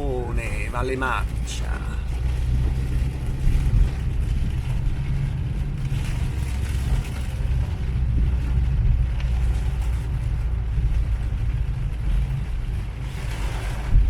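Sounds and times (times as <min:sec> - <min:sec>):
car engine and tyres on wet road: 0:00.0 - 0:14.0.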